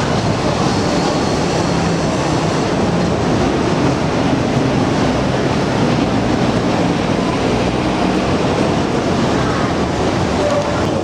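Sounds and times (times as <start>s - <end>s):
dense road traffic: 0.0s - 11.0s.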